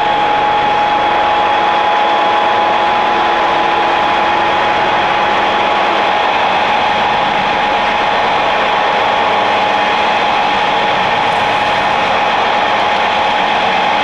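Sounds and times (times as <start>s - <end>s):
milling machine running: 0.0s - 14.0s.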